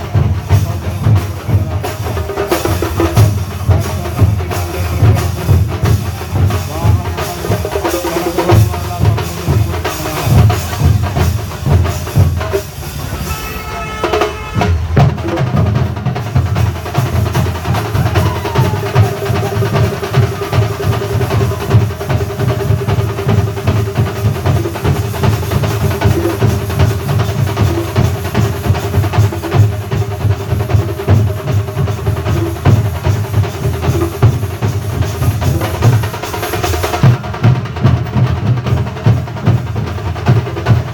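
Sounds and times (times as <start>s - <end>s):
light percussion: 0.0s - 40.9s.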